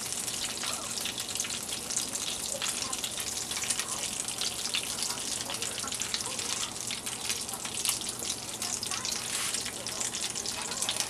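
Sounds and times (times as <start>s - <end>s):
frying oil crackling and sizzling: 0.0s - 11.0s.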